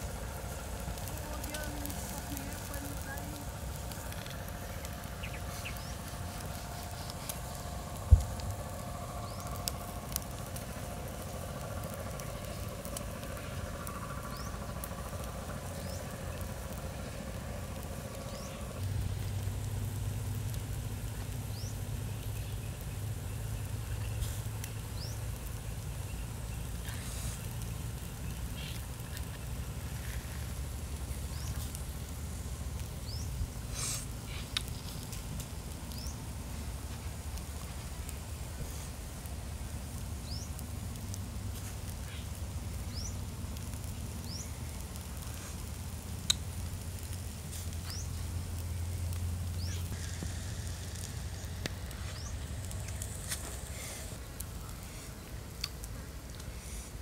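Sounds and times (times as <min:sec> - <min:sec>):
embers crackling: 0:00.0 - 0:57.0
steady low hum: 0:00.0 - 0:57.0.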